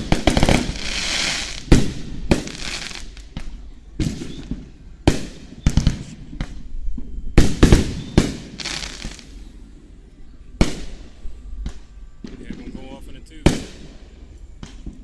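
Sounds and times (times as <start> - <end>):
fireworks booming: 0.0 - 9.7, 10.6 - 15.0
crackling firework shower: 0.0 - 15.0.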